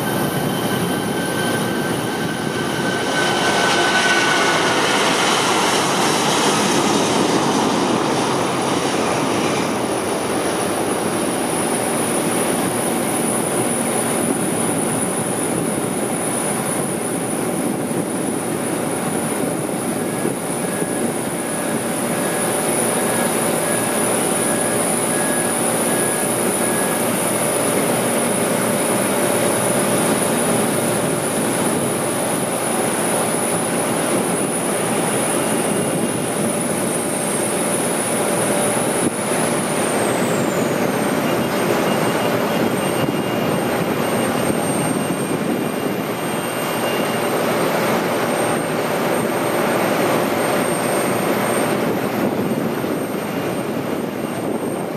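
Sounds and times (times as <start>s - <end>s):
jet engines at takeoff power: 0.0s - 54.9s.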